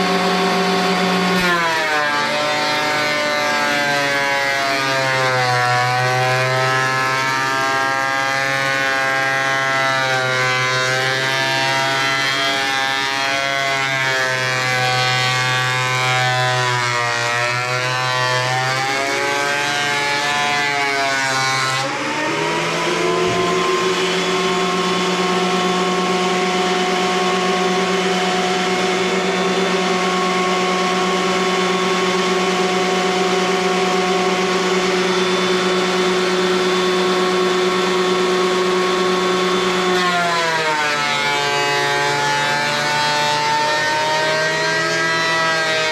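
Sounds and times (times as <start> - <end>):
thickness planer motor whine: 0.0 - 45.9.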